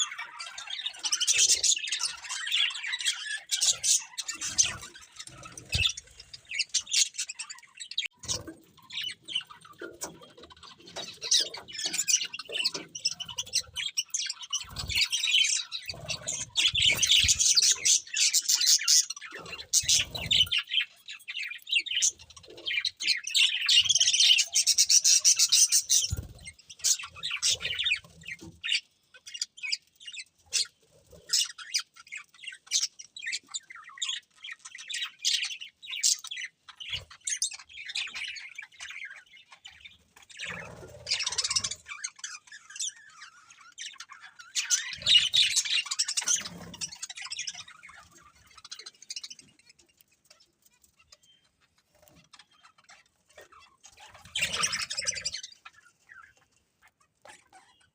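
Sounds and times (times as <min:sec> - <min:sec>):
budgerigars chirping and chattering: 0:00.0 - 0:57.9.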